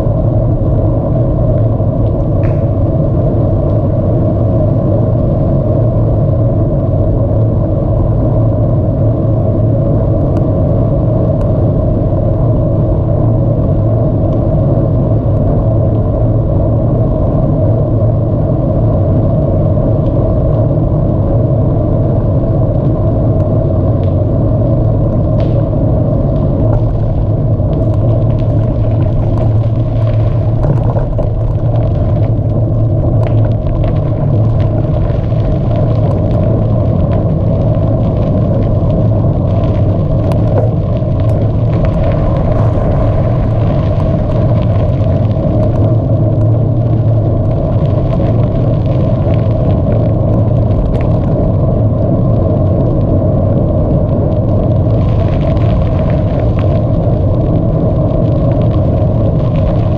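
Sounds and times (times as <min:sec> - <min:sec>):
wind and tyre rumble: 0:00.0 - 0:59.9.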